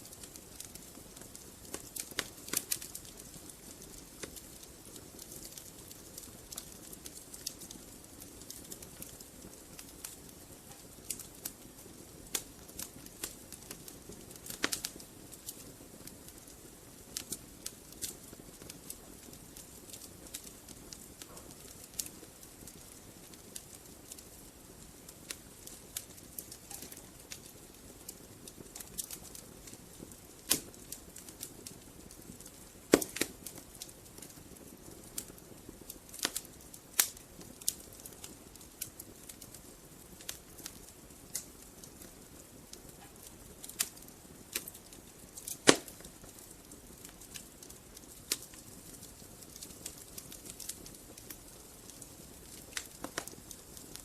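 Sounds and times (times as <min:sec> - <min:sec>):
soft fire hiss: 0:00.0 - 0:54.0
wood fire crackling and popping: 0:00.0 - 0:54.0.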